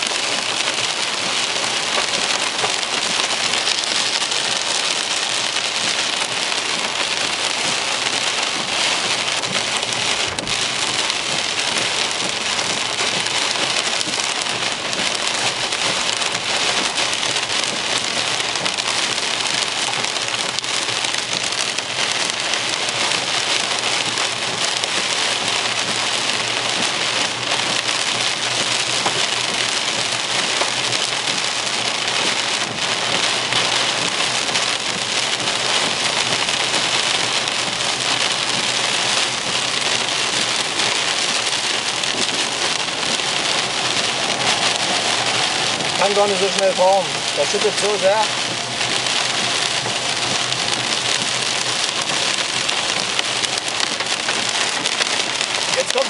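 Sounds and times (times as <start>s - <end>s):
heavy rain on car roof: 0.0s - 56.0s.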